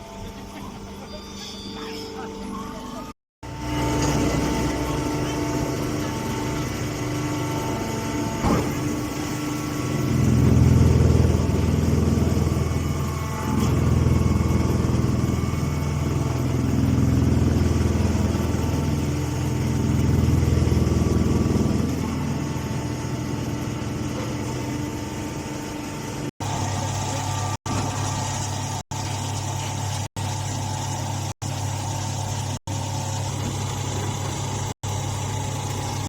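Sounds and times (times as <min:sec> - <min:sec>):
baler machine humming: 0:00.0 - 0:36.0.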